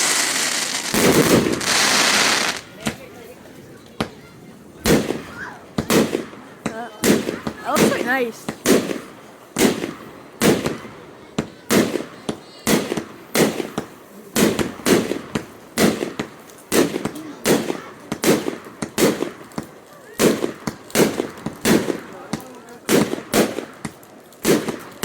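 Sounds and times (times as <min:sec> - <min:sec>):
fireworks bangs with echo: 0:00.0 - 0:25.0.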